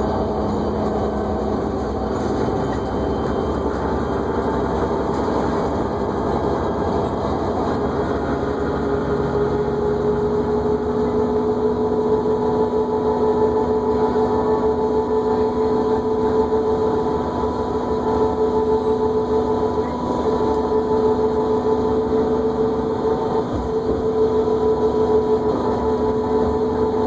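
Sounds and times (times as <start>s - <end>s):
bus engine and road noise: 0.0s - 27.0s
whine: 0.0s - 27.0s.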